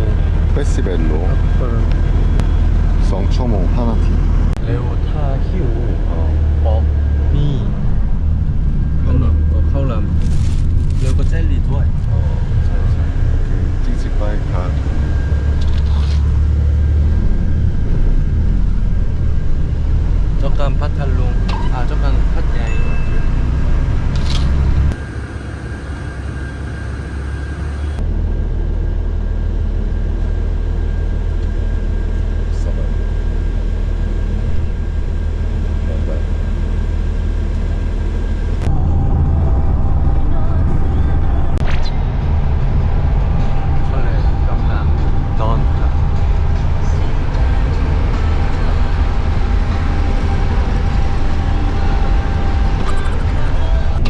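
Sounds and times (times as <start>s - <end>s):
road vehicle rumble: 0.0s - 54.0s.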